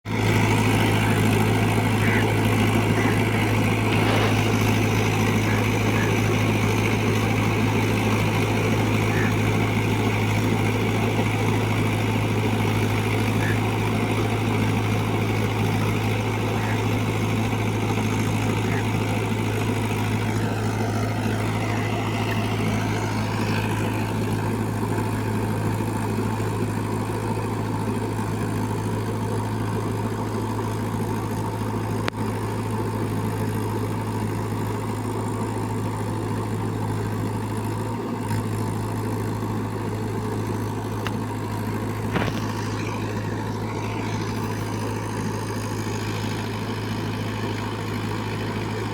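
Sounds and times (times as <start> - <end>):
tractor diesel engine droning: 0.0 - 48.9.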